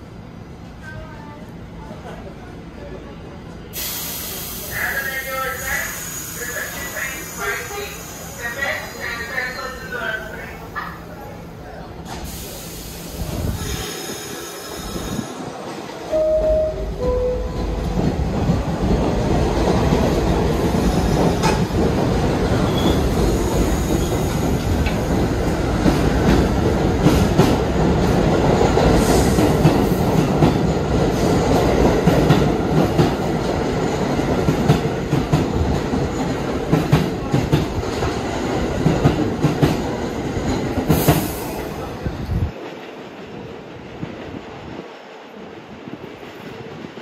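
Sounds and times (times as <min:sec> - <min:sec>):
subway train rumbling on rails: 0:00.0 - 0:47.0.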